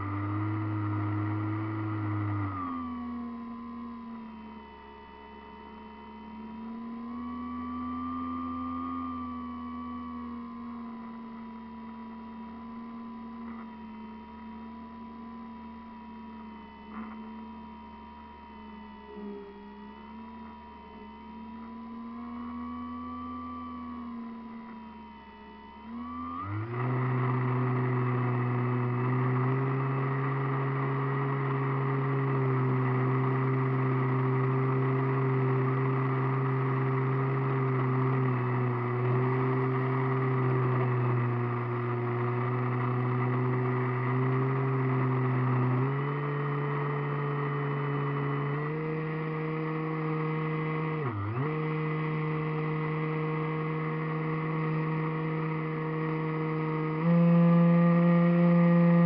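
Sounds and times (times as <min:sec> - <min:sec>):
model airplane motor drone: 0:00.0 - 0:59.0.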